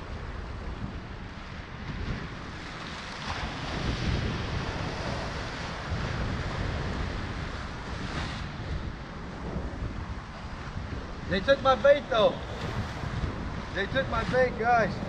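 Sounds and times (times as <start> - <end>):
ocean surf on rocks: 0.0 - 15.0
wind buffeting microphone: 0.0 - 15.0.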